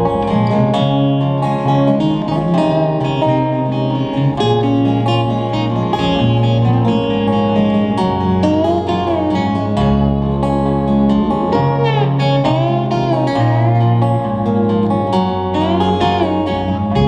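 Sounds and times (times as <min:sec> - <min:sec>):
acoustic guitar strummed and plucked: 0:00.0 - 0:17.0
low held notes: 0:00.0 - 0:17.0.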